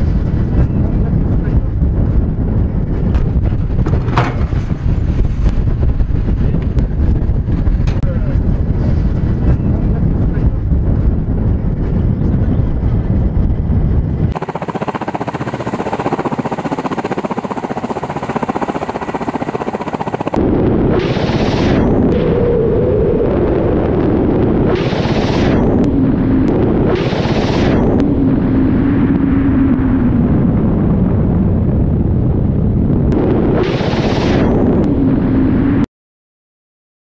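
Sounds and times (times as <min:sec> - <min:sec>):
helicopter rotor and engine drone: 0:00.0 - 0:35.8
wind on microphone: 0:00.0 - 0:35.9.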